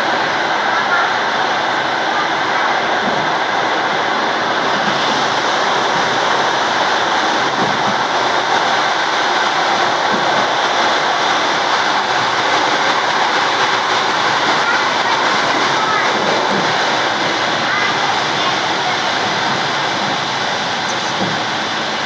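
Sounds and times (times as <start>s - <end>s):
train running noise on rails: 0.0s - 22.0s.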